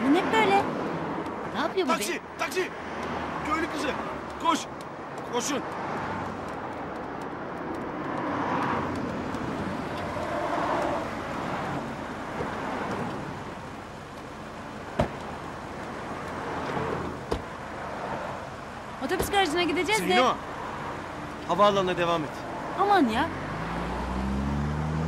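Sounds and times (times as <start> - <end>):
road traffic: 0.0 - 25.0
car engine running: 0.1 - 23.1.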